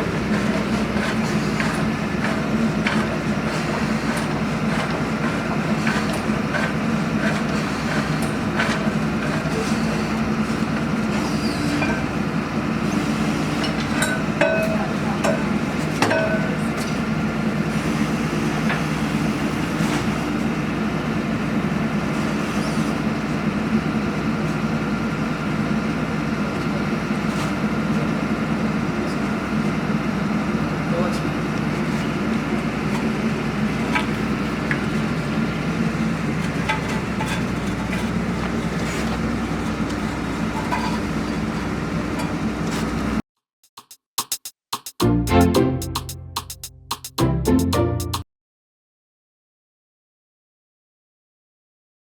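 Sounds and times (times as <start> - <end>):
heavy engine running: 0.0 - 43.2.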